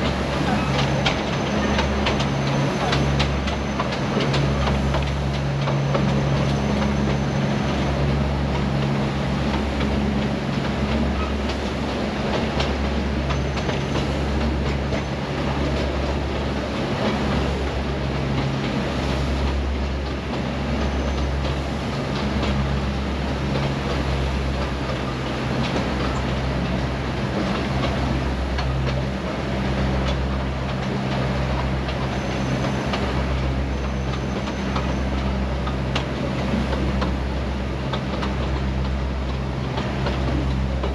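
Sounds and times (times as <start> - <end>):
low pulsing rumble: 0.0 - 40.9
train wheels rattling on rails: 0.0 - 40.9.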